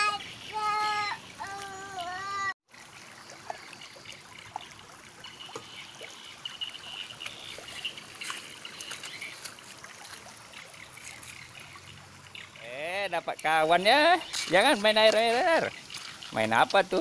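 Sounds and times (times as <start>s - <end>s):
stream trickling over gravel: 0.0s - 17.0s.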